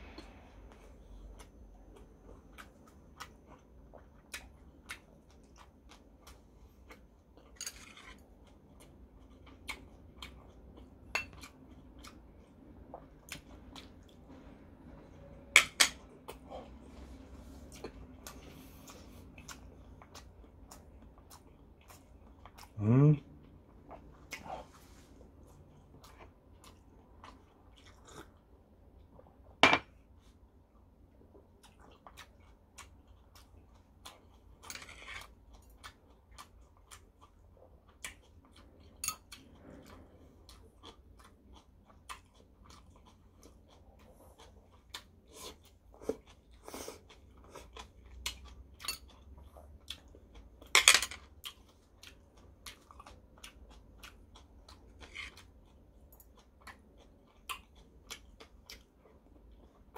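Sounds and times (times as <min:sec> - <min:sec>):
person chewing: 0:00.0 - 0:15.3, 0:15.9 - 0:59.9.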